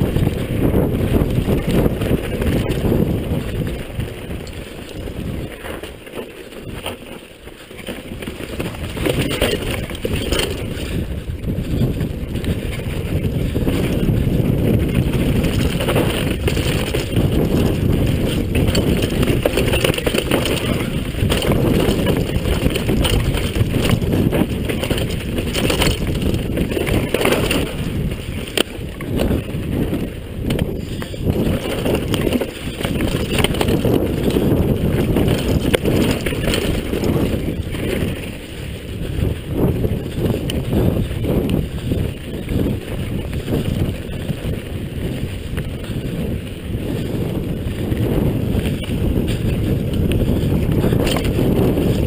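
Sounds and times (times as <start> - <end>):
bike knocks and clatter: 0.0 - 38.2, 46.9 - 52.0
wind buffeting microphone: 0.0 - 52.0.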